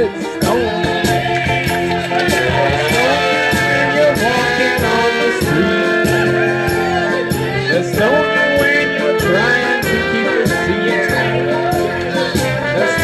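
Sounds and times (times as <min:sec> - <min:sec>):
backing track with steady beat: 0:00.0 - 0:13.0
man singing karaoke: 0:00.0 - 0:13.0.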